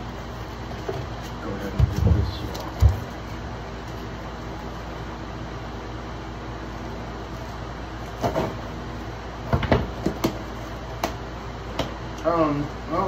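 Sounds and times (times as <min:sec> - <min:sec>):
electric fans humming: 0:00.0 - 0:13.0.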